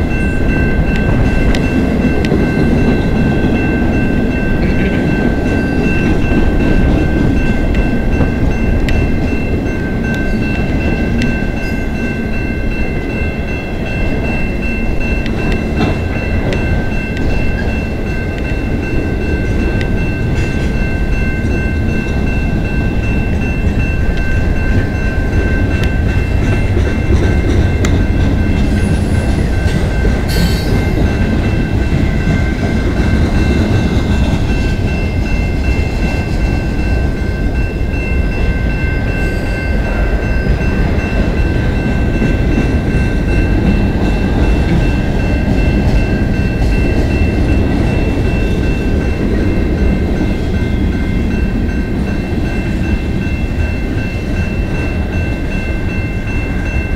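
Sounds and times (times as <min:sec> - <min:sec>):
crossing warning bell ringing: 0:00.0 - 0:56.9
freight train wheels rumbling: 0:00.0 - 0:56.9.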